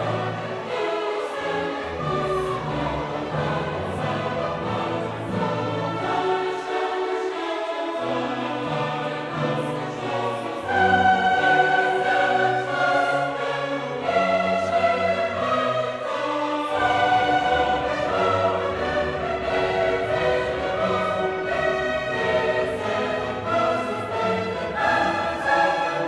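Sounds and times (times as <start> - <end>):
choir singing: 0.0 - 26.0
orchestra playing: 0.0 - 26.0.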